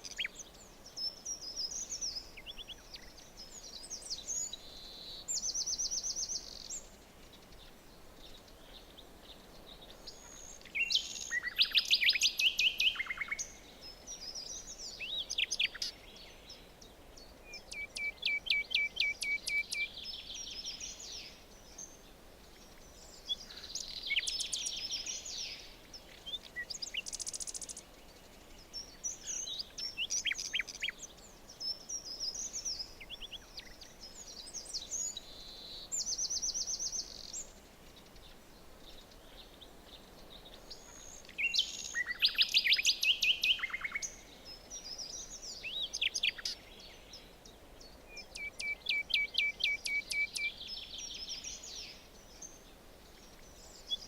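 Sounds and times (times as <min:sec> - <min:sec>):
faint steady hiss: 0:00.0 - 0:54.0
songbirds singing and calling: 0:00.0 - 0:54.0.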